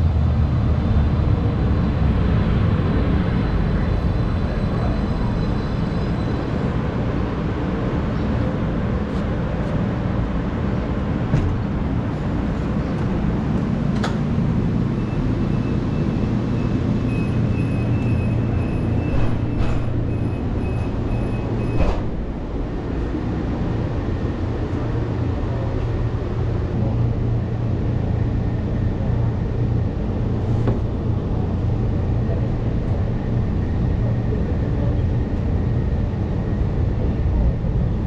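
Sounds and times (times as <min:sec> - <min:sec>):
train car rumble: 0:00.0 - 0:38.0.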